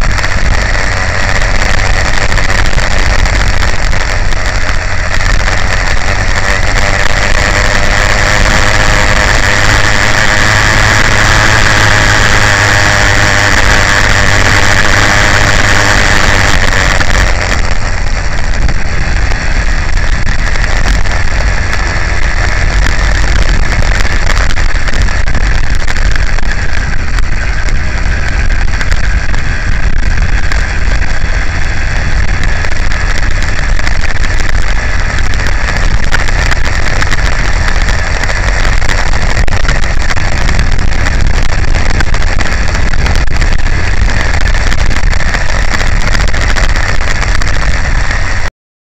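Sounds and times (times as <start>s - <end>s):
low rumble: 0.0s - 48.5s
two-stroke bicycle engine running: 0.0s - 48.5s.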